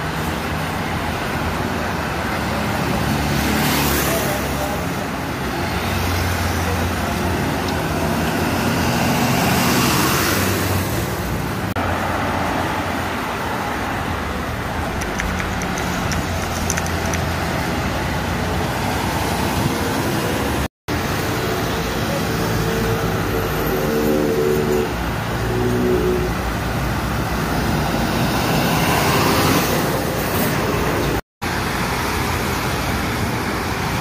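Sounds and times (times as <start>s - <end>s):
bus diesel engines droning: 0.0s - 34.0s
passing cars and motorcycles: 0.0s - 34.0s.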